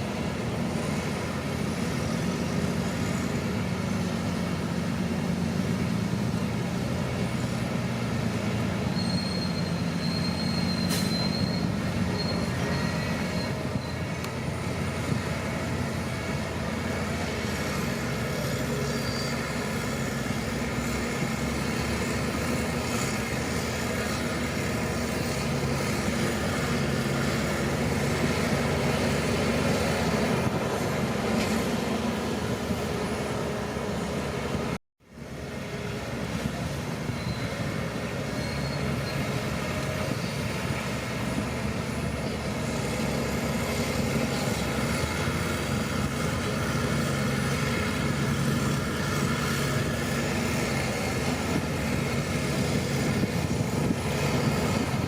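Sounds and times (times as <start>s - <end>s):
steel tracks clanking and squealing: 0.0s - 34.8s, 35.7s - 55.0s
bulldozer diesel engine under load: 0.0s - 55.0s.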